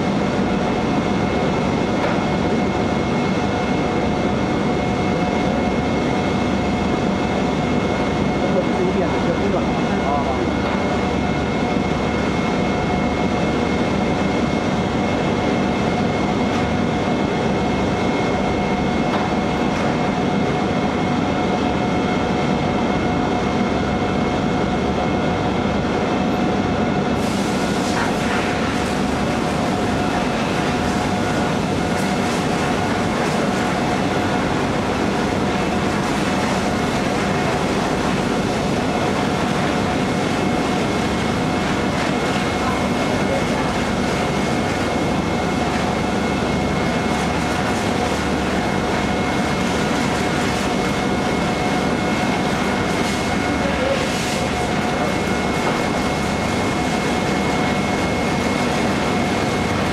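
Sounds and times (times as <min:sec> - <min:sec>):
industrial machinery rumble: 0:00.0 - 0:59.9.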